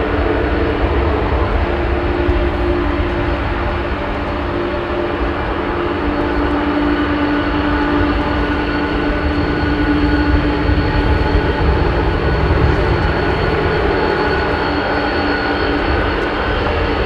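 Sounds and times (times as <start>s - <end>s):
jet engines rumbling: 0.0s - 17.0s
thin jet engine whine: 0.0s - 17.0s.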